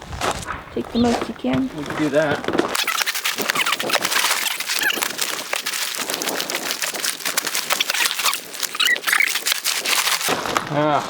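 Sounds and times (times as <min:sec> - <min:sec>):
crackling and rustling: 0:00.0 - 0:11.0.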